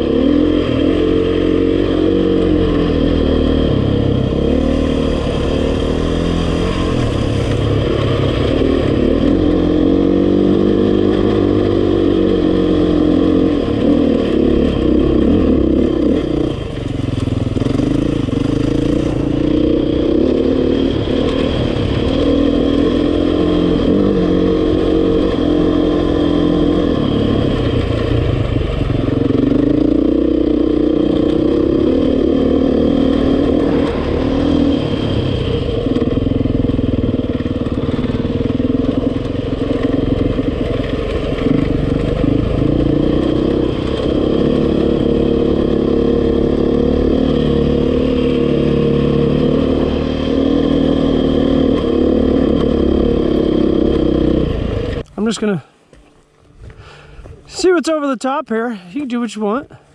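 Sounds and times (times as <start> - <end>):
dirt bike engine revving: 0.0 - 55.5.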